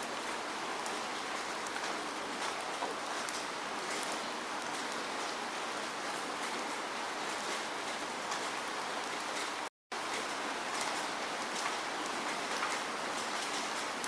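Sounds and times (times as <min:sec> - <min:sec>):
steady falling rain: 0:00.0 - 0:14.0.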